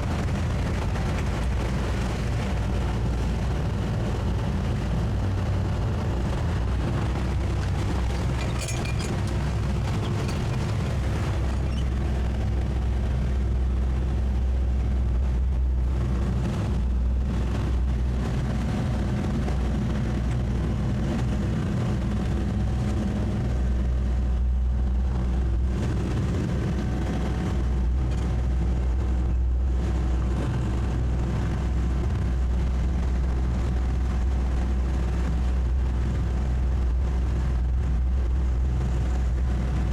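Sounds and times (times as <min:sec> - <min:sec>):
outboard motors droning: 0:00.0 - 0:39.9.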